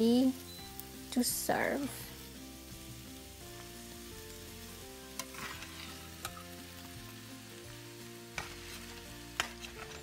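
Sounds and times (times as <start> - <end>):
noodles sizzling in a frying pan: 0.0 - 10.0.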